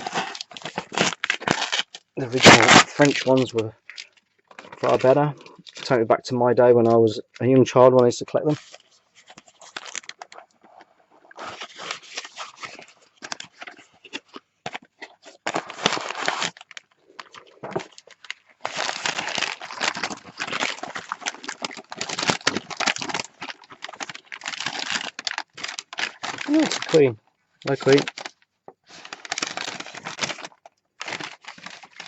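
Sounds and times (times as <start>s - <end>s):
packaging crinkling and tearing: 0.0s - 6.0s, 8.4s - 32.0s.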